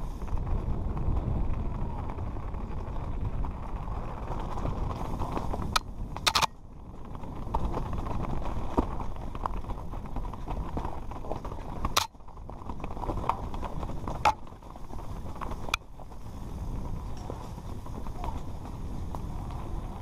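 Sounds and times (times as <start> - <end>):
bike rattling: 0.0 - 20.0
wind and ground rumble: 0.0 - 20.0
tyres over loose stones: 0.5 - 20.0.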